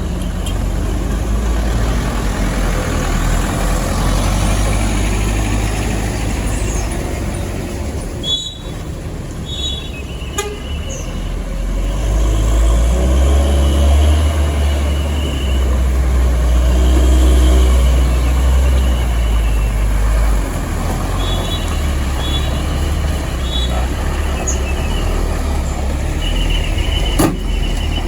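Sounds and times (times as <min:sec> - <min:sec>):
heavy trucks passing: 0:00.0 - 0:28.0.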